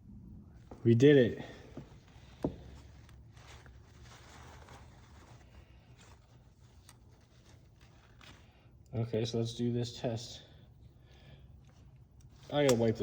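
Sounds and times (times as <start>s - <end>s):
low steady hum: 0.0s - 13.0s
rustling and handling noises: 0.6s - 9.4s, 10.6s - 13.0s.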